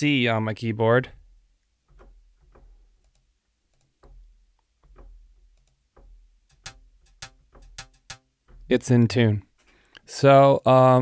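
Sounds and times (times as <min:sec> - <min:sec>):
low steady hum: 0:00.3 - 0:09.6.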